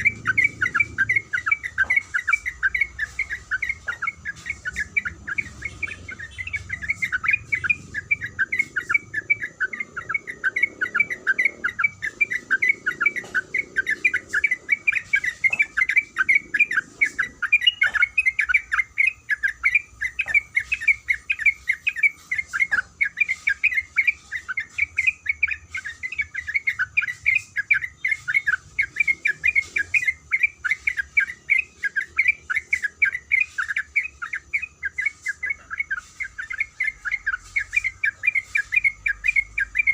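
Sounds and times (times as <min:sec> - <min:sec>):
bird singing quick notes: 0:00.0 - 0:39.9.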